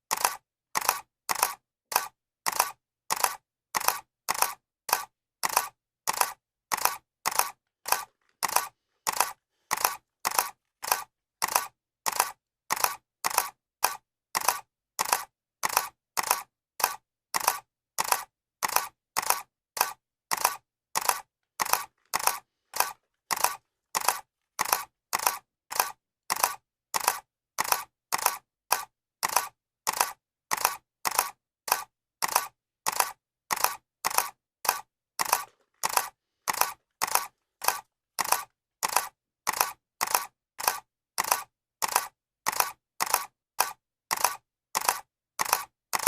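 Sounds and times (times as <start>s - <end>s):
camera shutter clicking: 0.1s - 46.0s.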